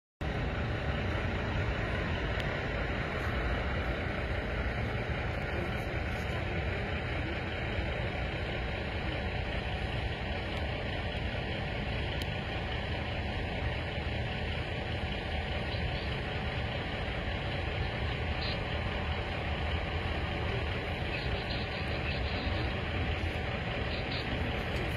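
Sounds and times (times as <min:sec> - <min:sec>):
idling vehicle engines rumble: 0:00.2 - 0:24.9.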